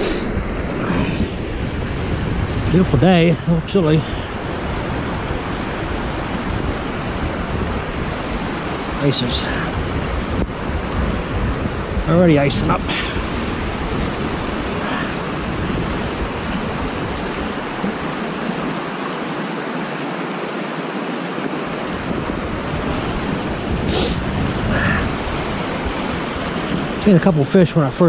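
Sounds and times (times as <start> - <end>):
low wind rumble on microphone: 0.0 - 28.0.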